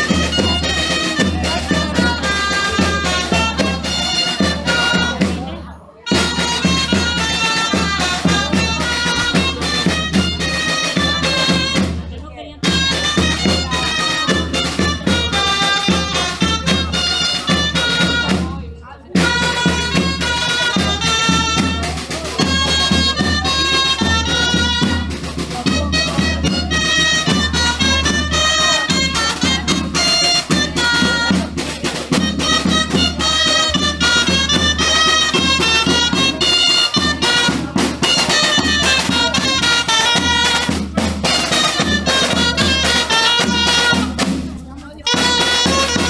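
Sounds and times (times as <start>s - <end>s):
snare drum: 0.0s - 18.6s, 19.2s - 46.0s
larger drum beating time: 0.0s - 46.0s
shawm playing quick melody: 0.0s - 46.0s.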